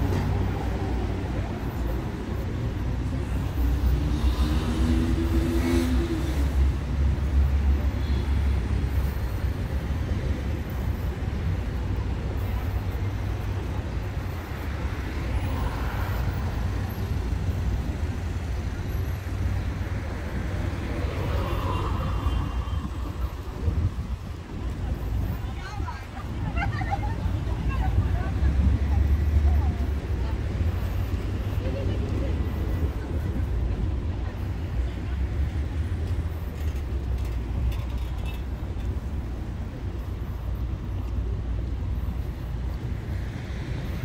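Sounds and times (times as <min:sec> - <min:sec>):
road traffic engine rumble: 0:00.0 - 0:44.0.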